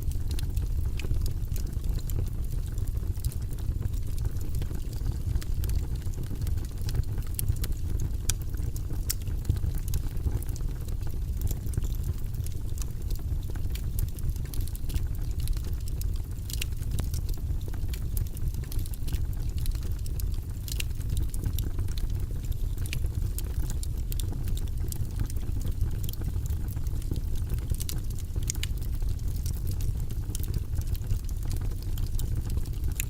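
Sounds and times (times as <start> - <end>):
fire pops and snaps: 0.0 - 33.0
low rumble of flames: 0.0 - 33.0
wood fire crackling: 0.0 - 33.0.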